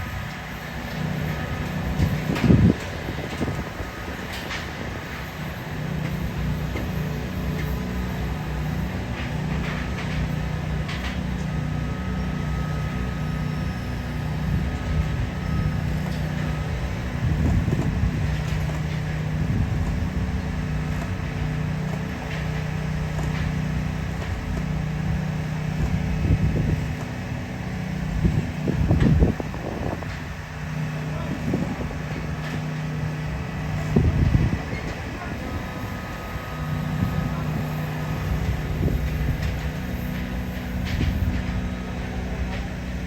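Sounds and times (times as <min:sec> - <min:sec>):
construction machinery engine hum: 0:00.0 - 0:43.0.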